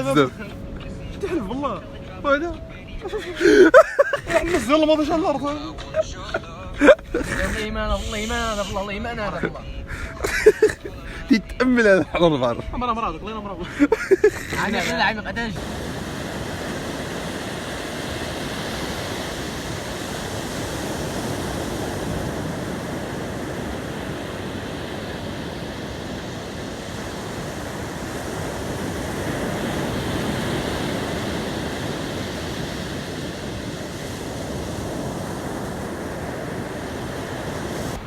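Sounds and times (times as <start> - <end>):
sea surf washing on shore: 0.0 - 38.0.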